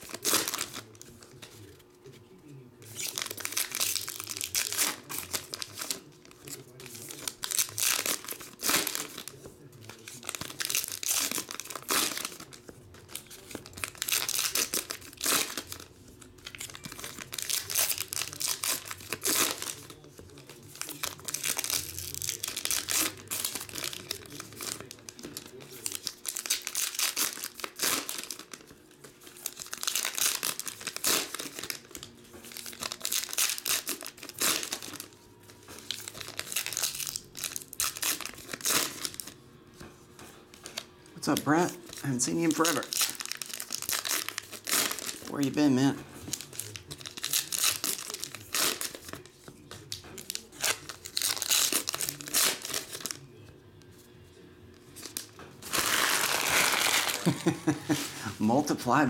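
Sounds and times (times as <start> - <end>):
foil wrappers tearing and crinkling: 0.0 - 2.1, 2.8 - 39.4, 40.4 - 53.3, 54.9 - 58.4.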